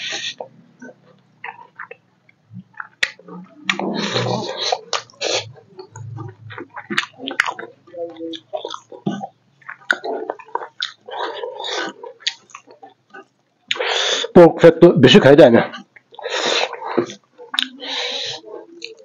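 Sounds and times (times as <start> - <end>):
chewing and lip-smacking: 0.0 - 14.0, 15.7 - 19.0.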